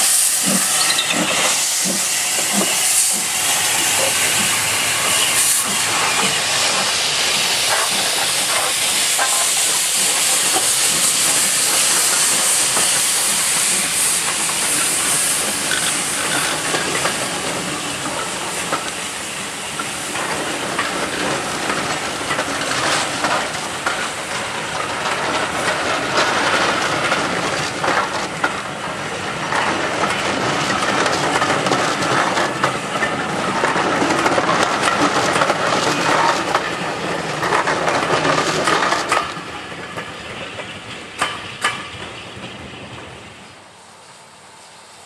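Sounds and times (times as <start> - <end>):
train wheels clicking over rail joints: 0.0 - 43.4.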